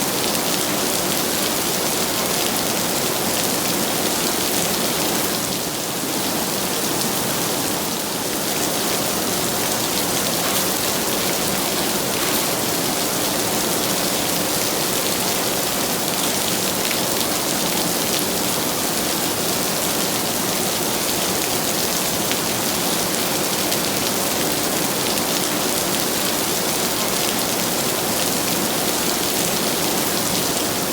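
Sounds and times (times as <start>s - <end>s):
heavy rain: 0.0s - 30.9s.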